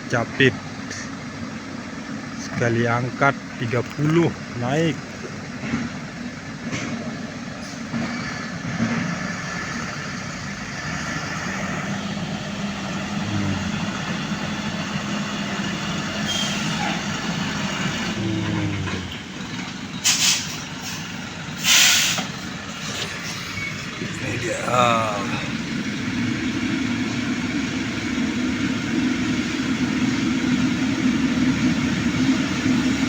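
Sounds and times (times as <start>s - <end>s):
loader engine running: 0.6s - 33.0s.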